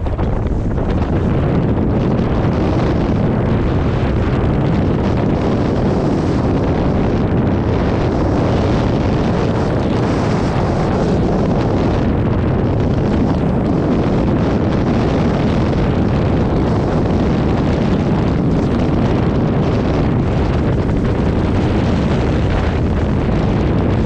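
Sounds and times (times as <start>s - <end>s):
wind buffeting the microphone: 0.0s - 24.0s.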